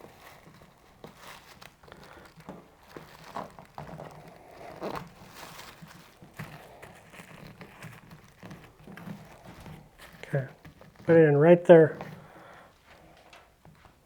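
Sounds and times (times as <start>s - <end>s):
seat cover rustling and crinkling: 0.0s - 14.0s.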